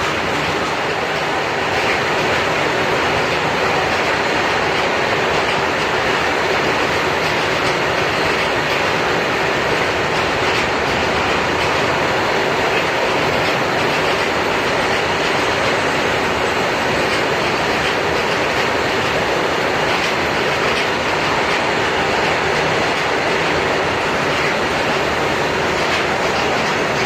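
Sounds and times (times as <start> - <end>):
freight train wheels rattling: 0.0 - 27.0.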